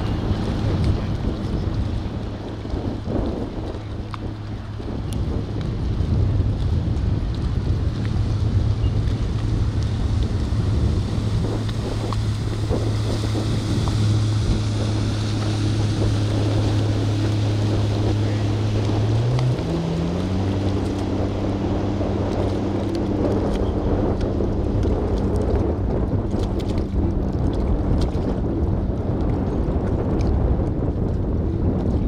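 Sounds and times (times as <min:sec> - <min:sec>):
boat motor humming: 0:00.0 - 0:32.0
water noise: 0:00.0 - 0:32.0
wind: 0:00.0 - 0:32.0.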